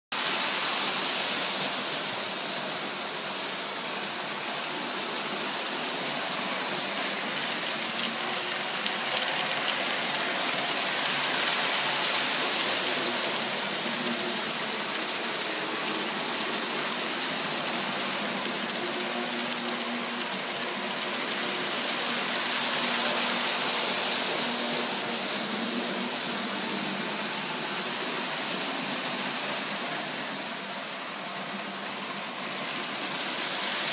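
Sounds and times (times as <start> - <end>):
model train wheels rumbling: 0.2 - 33.9.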